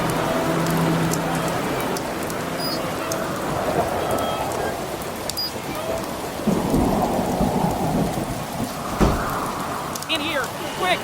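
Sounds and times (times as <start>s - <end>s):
steady rain falling: 0.0s - 11.0s
thunder rumbling: 0.0s - 11.0s.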